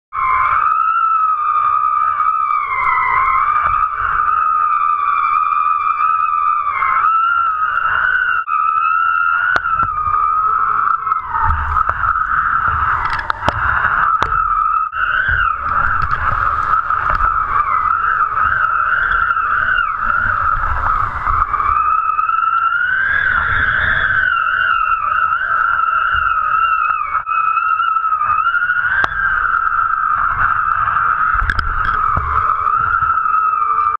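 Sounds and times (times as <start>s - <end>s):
high wind whistle: 0.1s - 34.0s
wind buffeting microphone: 0.1s - 34.0s.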